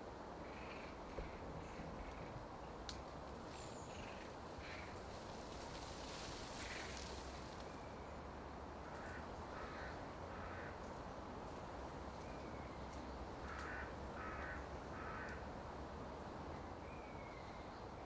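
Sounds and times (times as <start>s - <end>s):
forest background hiss: 0.0s - 18.0s.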